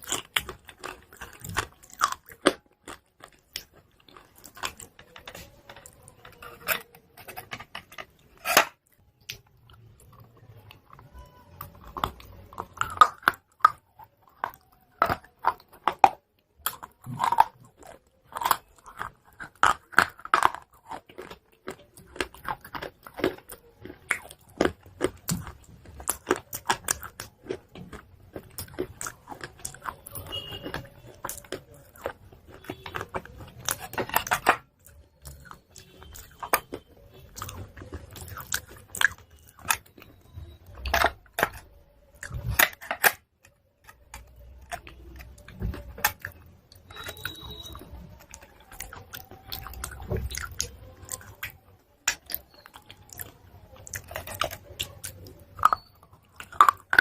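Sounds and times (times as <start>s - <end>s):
crunchy chalk being chewed: 0.0s - 57.0s.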